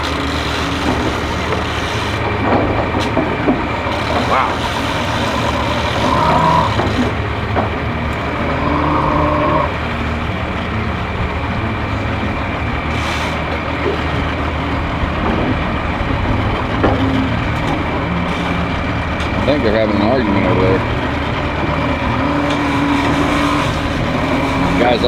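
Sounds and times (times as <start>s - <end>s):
outdoor background noise: 0.0s - 25.0s
truck engine running: 0.0s - 25.0s.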